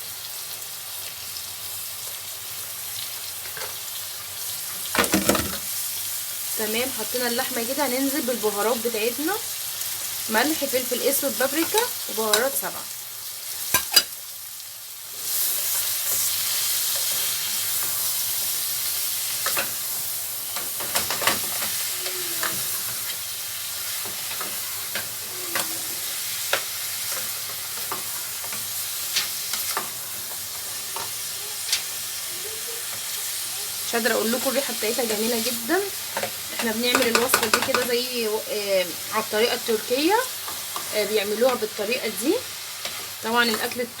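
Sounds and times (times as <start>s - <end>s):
meat sizzling in a pot: 0.0s - 44.0s.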